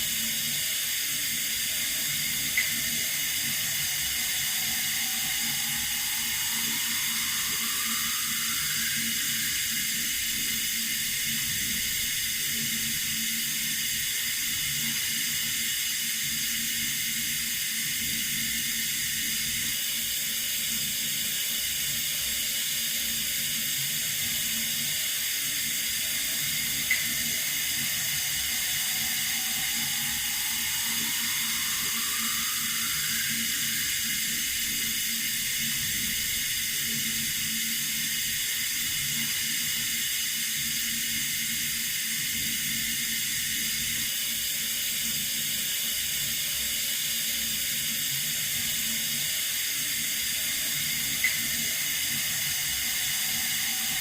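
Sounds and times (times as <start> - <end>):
water running from a tap: 0.0 - 54.0.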